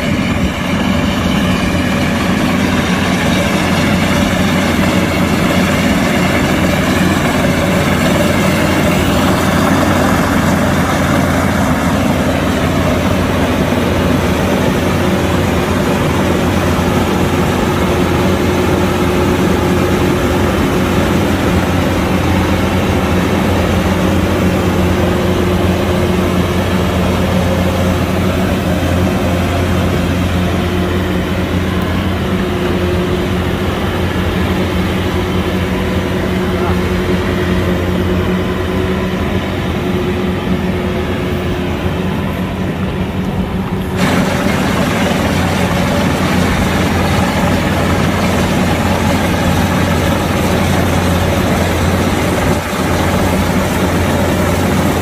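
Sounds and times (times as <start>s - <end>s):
combine harvester engine droning: 0.0s - 55.0s
mechanical whine: 0.0s - 55.0s.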